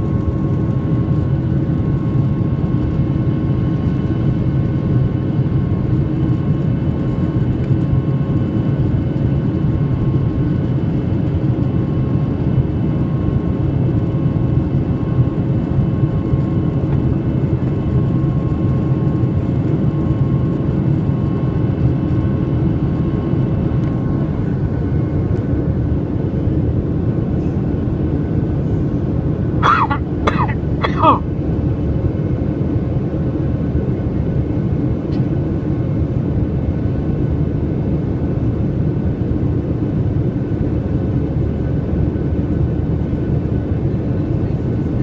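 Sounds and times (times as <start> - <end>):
airliner cabin engine drone: 0.0 - 45.0.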